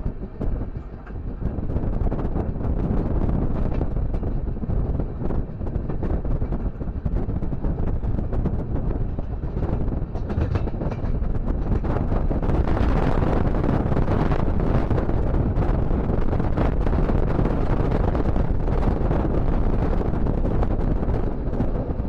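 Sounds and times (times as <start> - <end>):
train rumbling on rails: 0.0 - 22.0
wind buffeting microphone: 0.0 - 22.0.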